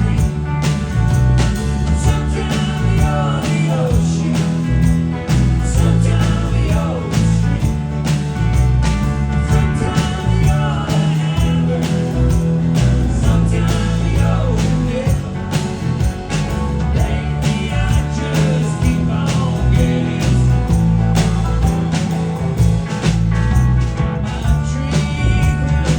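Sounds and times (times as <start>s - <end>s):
live rock band playing: 0.0s - 25.9s.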